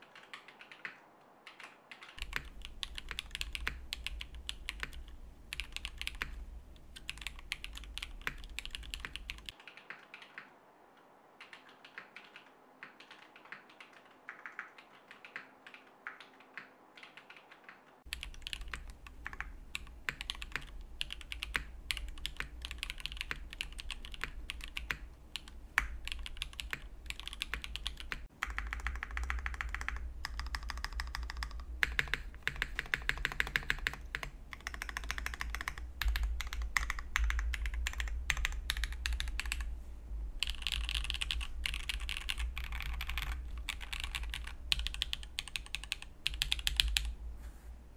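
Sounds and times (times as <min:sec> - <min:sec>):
mechanical keyboard typing: 0:00.0 - 0:10.5, 0:11.4 - 0:39.7, 0:40.4 - 0:47.2.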